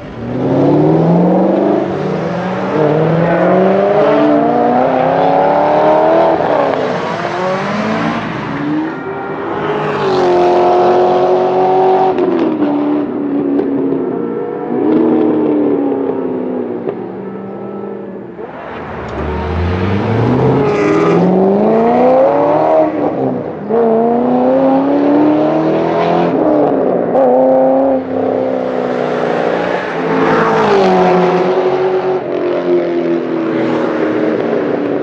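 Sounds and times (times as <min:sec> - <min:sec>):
car engine accelerating through gears: 0:00.0 - 0:14.0, 0:14.6 - 0:35.0.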